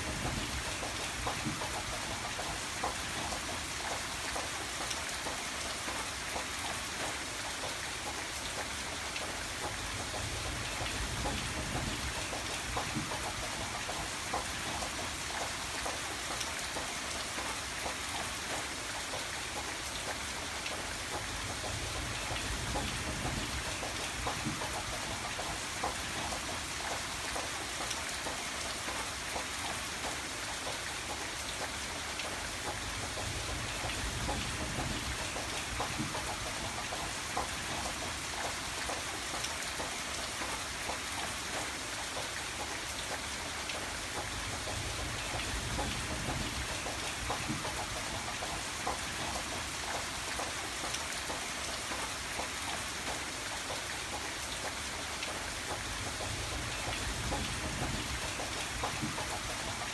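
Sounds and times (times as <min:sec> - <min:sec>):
raindrops ticking on hard surface: 0:00.0 - 0:59.9
steady rain hiss: 0:00.0 - 0:59.9.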